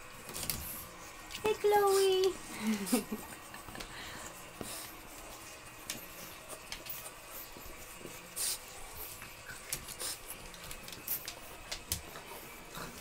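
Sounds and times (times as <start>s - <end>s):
puppies rustling on blanket: 0.0s - 13.0s.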